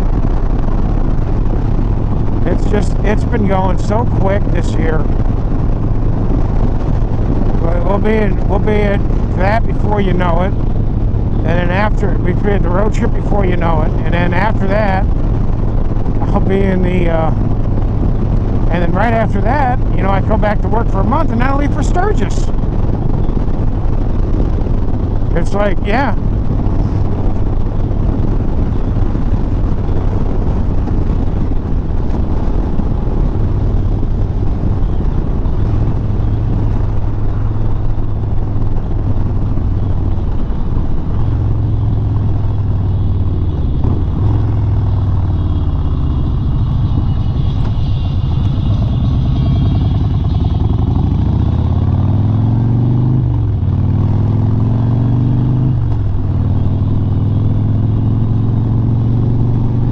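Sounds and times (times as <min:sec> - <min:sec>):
wind rushing: 0:00.0 - 0:58.4
motorcycle engine running: 0:00.0 - 0:59.9.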